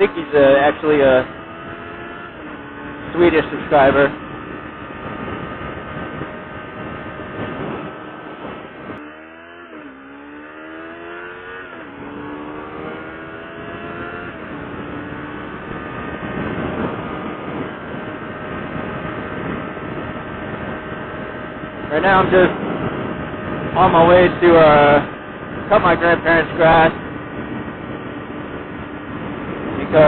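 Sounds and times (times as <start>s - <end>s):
motorcycle engine: 0.0s - 30.0s
wind rush: 0.0s - 30.0s.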